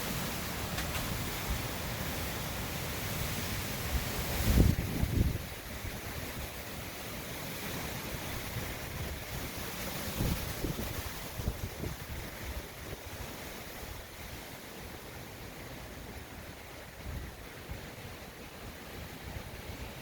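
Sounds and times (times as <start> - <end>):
hurricane winds blowing: 0.0 - 20.0
rain: 0.0 - 20.0
wind gusting against microphone: 0.0 - 20.0.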